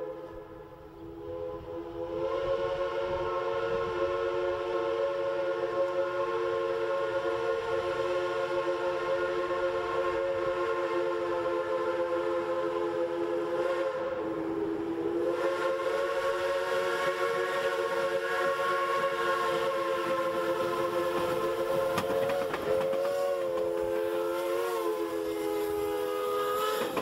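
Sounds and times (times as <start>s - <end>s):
steam whistle chord: 0.0s - 27.0s.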